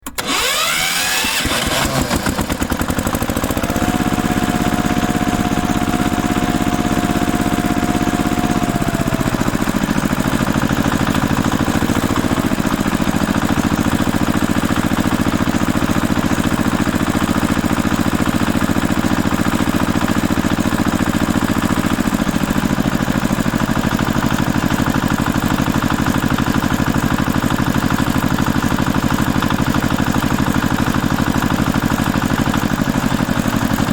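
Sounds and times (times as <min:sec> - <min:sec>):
lawn tractor engine starting: 0:00.0 - 0:33.9.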